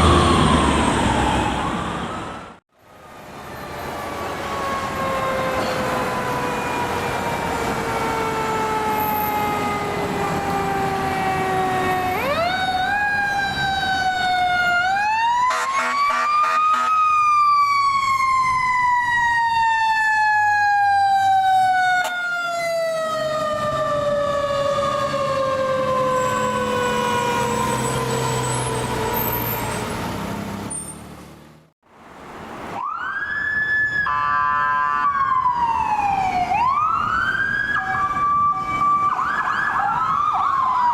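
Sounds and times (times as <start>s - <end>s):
second siren warbling: 0.0s - 30.2s, 32.8s - 40.9s
fire truck siren wailing: 0.0s - 30.7s, 32.8s - 40.9s.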